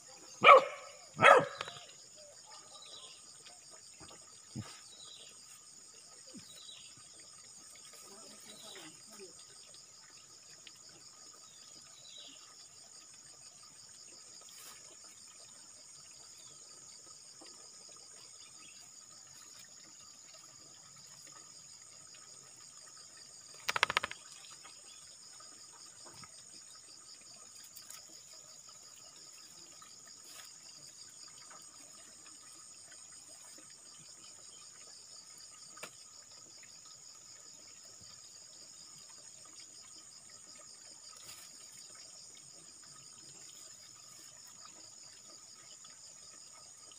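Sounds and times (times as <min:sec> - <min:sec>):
pulsing insect chorus: 0:00.0 - 0:46.9.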